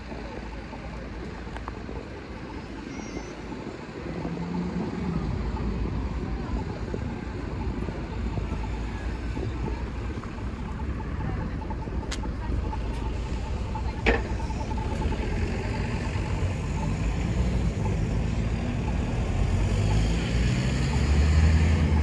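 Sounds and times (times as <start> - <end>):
passing vehicles: 0.0 - 22.0.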